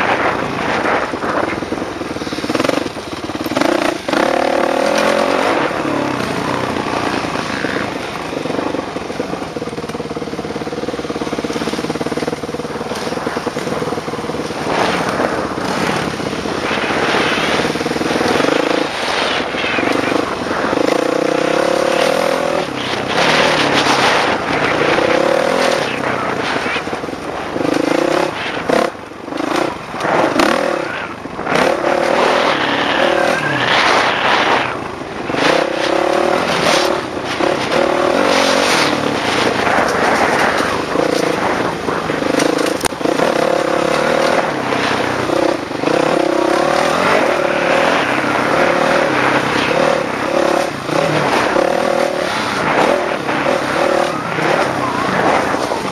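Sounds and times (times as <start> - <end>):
dirt bike engine revving: 0.0 - 55.9
wind rushing over microphone: 0.0 - 55.9.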